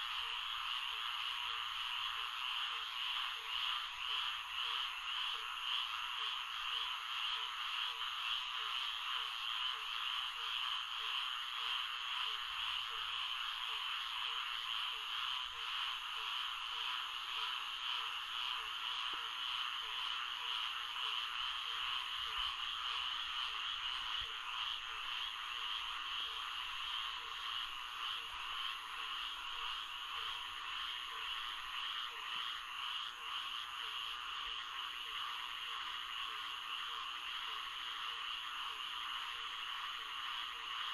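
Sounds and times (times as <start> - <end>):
dense trilling frog chorus: 0.0 - 40.9.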